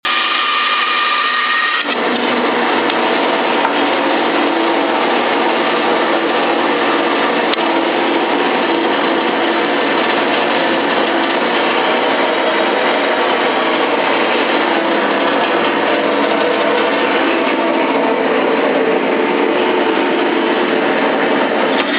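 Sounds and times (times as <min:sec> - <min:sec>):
bandsaw cutting wood: 0:00.0 - 0:21.9.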